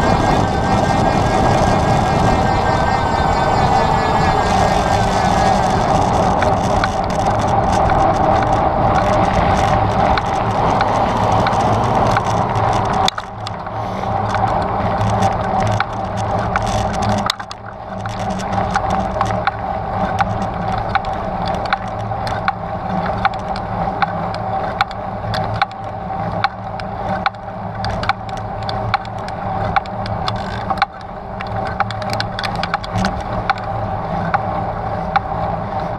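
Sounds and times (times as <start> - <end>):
bike wheels rumbling: 0.0 - 35.9
bike clicks and rattles: 4.4 - 35.9.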